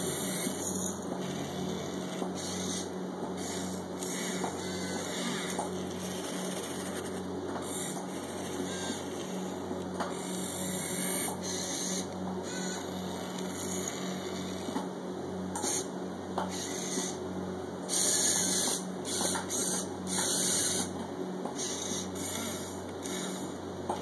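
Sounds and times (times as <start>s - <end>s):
small electric motors whirring: 0.0s - 14.8s, 15.6s - 17.2s, 17.9s - 20.9s, 21.6s - 23.6s
steady pulsing hum: 0.0s - 24.0s.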